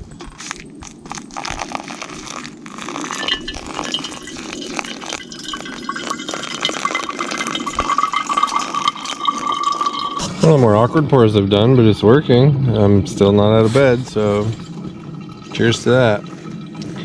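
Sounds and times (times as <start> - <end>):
coffee pouring into a mug: 1.0 - 12.4, 13.0 - 17.0.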